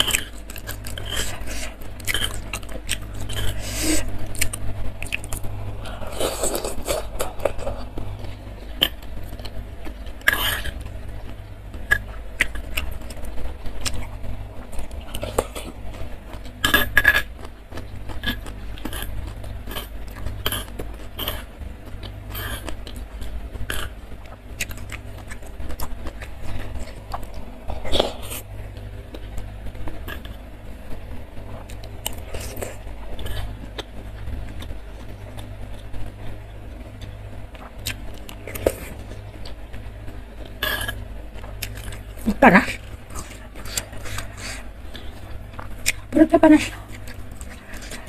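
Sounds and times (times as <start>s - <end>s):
close chewing of soft food: 0.0s - 48.0s
steady low hum: 0.0s - 48.0s.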